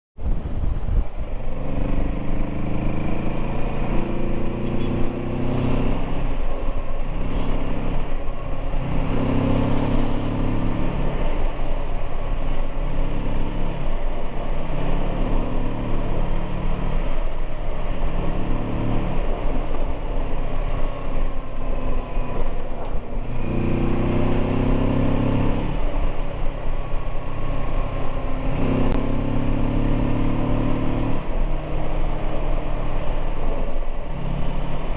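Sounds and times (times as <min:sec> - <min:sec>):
motorcycle accelerating through gears: 0:00.2 - 0:34.9.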